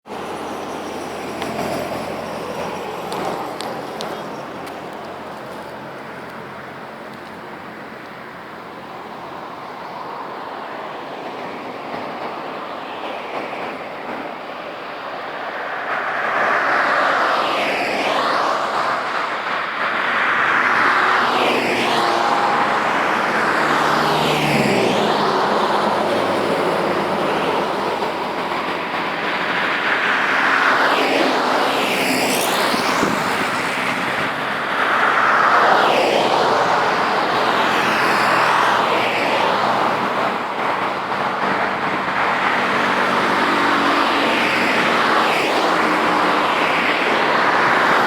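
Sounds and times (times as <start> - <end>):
vehicles passing by: 0.0 - 48.0.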